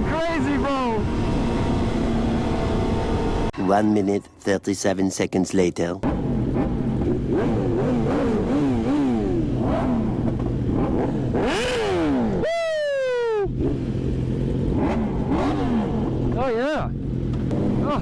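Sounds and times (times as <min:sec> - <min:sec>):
motorcycle engines revving: 0:00.0 - 0:03.6, 0:06.0 - 0:18.0
steady engine hum: 0:00.0 - 0:03.6, 0:06.0 - 0:18.0.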